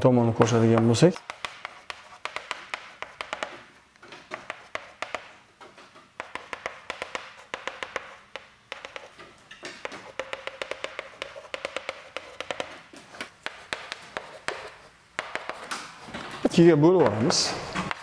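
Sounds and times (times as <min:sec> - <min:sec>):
chalk tapping and scratching: 0:00.4 - 0:16.2.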